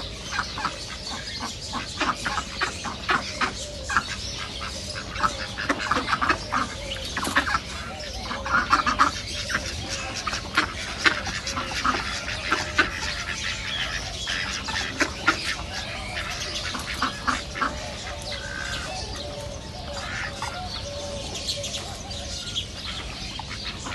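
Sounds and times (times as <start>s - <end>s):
ducks quacking: 0.0s - 23.9s.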